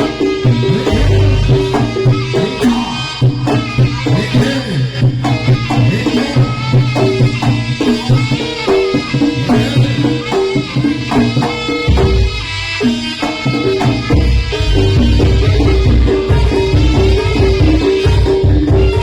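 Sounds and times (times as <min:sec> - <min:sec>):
gamelan melody over drone: 0:00.0 - 0:05.4, 0:07.0 - 0:19.0
drums and hand percussion: 0:00.0 - 0:19.0.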